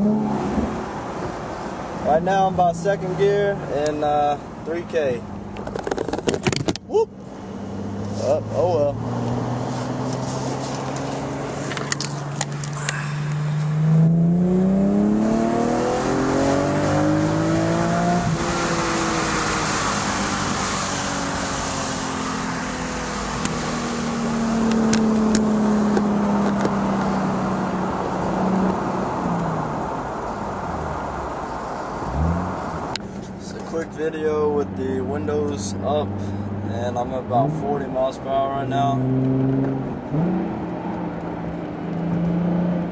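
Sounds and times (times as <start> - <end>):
car engine accelerating: 7.2 - 42.9.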